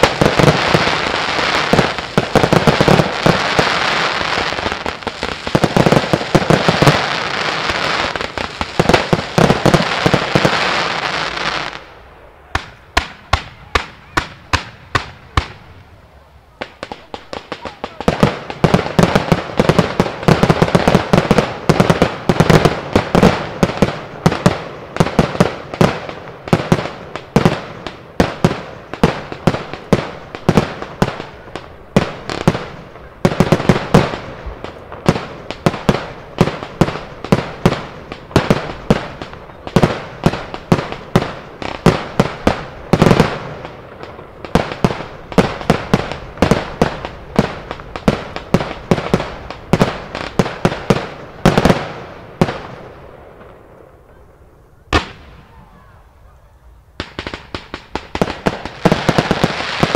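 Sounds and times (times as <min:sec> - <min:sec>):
fireworks launching and bursting: 0:00.0 - 0:59.9.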